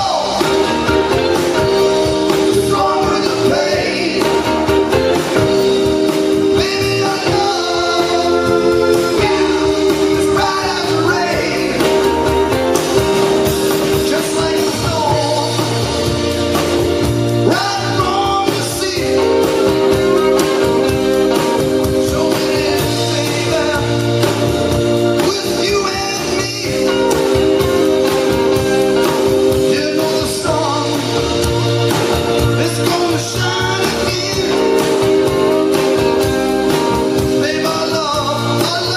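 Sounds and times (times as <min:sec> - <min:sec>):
person singing: 0:00.0 - 0:12.8, 0:17.4 - 0:38.9
live blues band playing: 0:00.0 - 0:38.9.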